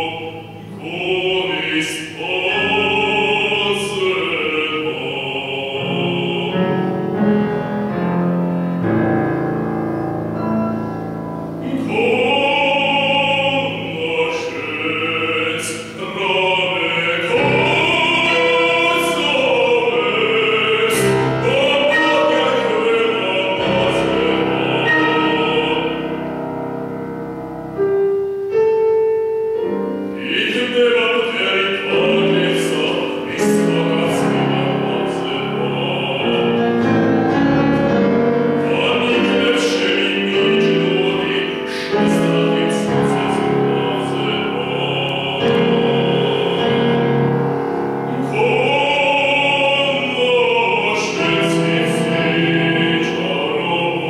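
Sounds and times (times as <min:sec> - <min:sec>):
man singing operatically: 0:00.0 - 0:07.2, 0:11.4 - 0:26.5, 0:30.1 - 0:47.4, 0:48.0 - 0:54.0
grand piano: 0:00.0 - 0:54.0.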